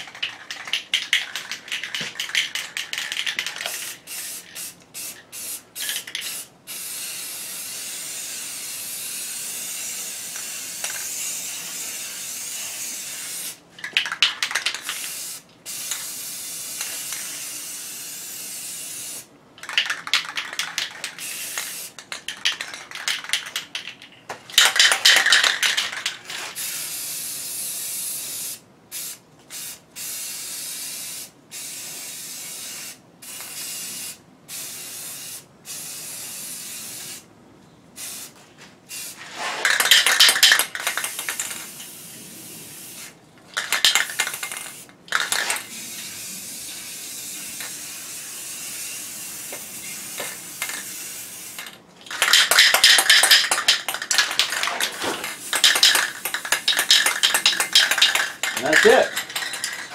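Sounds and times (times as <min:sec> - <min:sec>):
spray can rattling: 0:00.0 - 0:33.8, 0:38.0 - 0:59.9
spray can hissing: 0:00.1 - 0:23.8, 0:24.6 - 0:37.2, 0:38.0 - 0:59.9.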